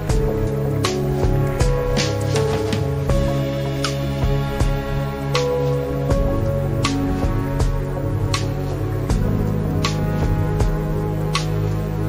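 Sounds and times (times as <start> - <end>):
calm background music: 0.0 - 12.0.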